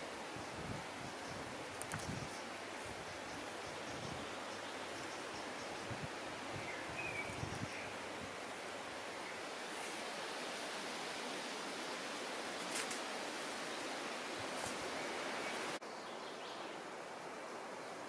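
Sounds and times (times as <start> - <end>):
outdoor woodland hiss: 0.0 - 18.0.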